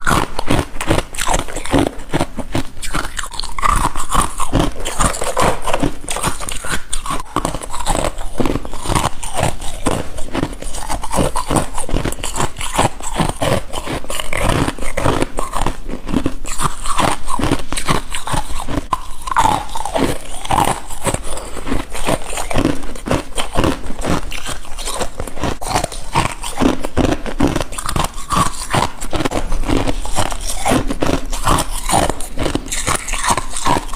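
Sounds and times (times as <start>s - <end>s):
person crunching ice: 0.0s - 33.9s.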